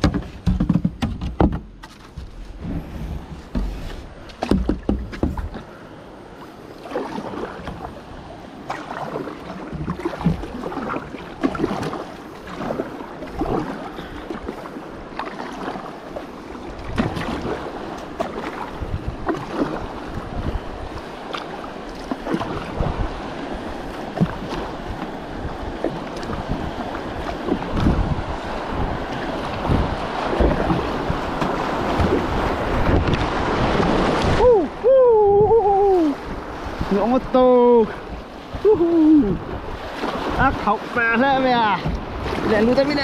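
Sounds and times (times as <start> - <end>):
paddle splashing in water: 0.0 - 5.8, 6.4 - 34.9, 35.8 - 43.0.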